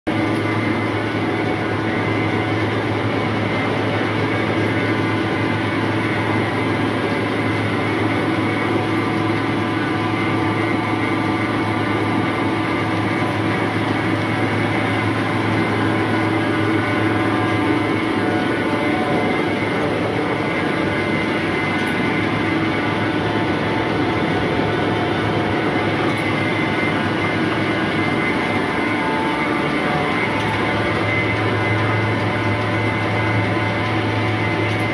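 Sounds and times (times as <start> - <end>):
sorting machine hum and rattle: 0.1 - 34.9.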